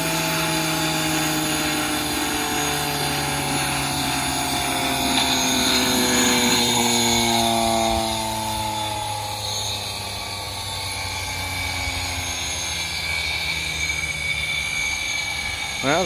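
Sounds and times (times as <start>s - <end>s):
steam turbine whine: 0.0s - 16.0s.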